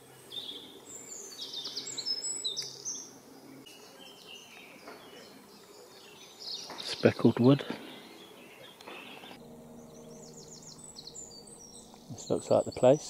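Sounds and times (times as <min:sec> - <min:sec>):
songbird chirping and trilling: 0:00.0 - 0:13.0.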